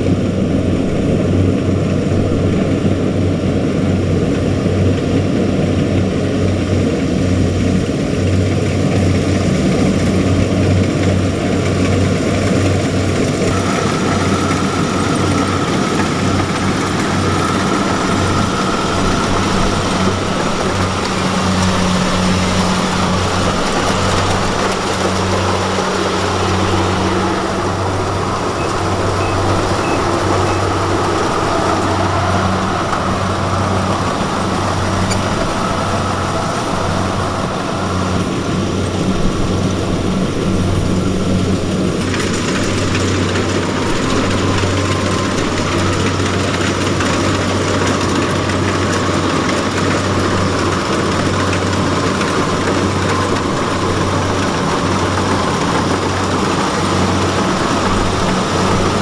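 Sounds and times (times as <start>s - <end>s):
heavy diesel engine droning: 0.0s - 59.0s
machinery mechanical noise: 0.0s - 59.0s.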